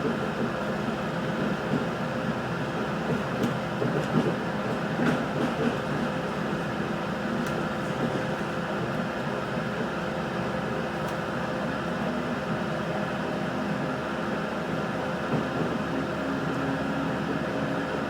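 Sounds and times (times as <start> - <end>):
railcar running noise: 0.0 - 18.0.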